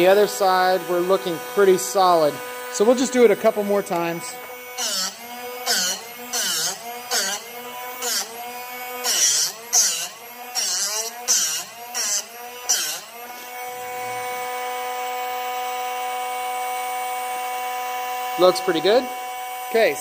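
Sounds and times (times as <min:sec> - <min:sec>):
drill bit grinding rasps: 0:00.0 - 0:20.0
sharpener motor running: 0:00.0 - 0:20.0.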